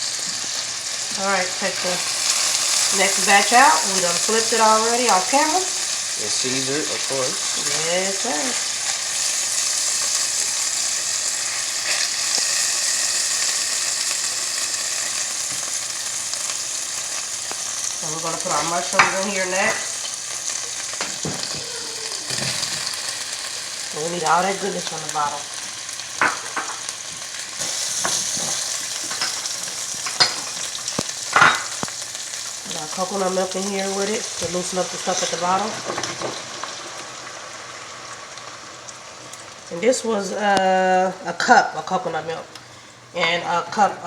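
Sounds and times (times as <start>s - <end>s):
chicken sizzling in a skillet: 0.0s - 43.1s
faint frying crackles: 0.0s - 44.0s.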